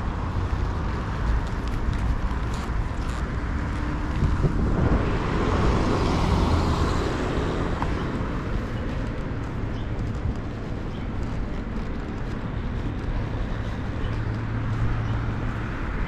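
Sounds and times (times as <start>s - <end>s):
road noise: 0.0s - 16.0s
rushing wind: 0.0s - 16.0s.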